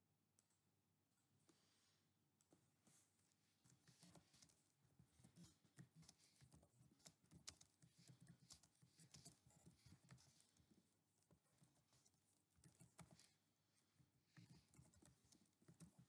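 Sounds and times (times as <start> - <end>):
faint keyboard typing: 2.4 - 16.0.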